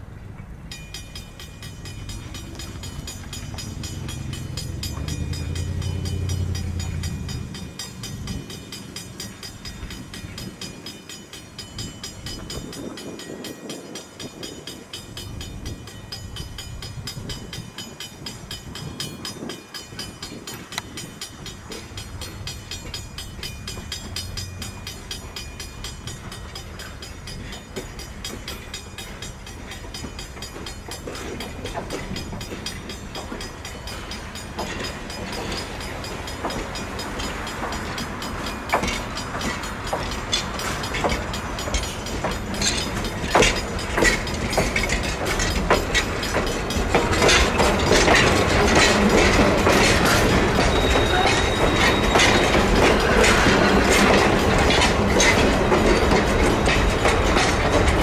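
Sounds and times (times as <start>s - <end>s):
steam locomotive rumbling by: 0.0s - 58.0s
train wheels clattering on rails: 0.0s - 58.0s.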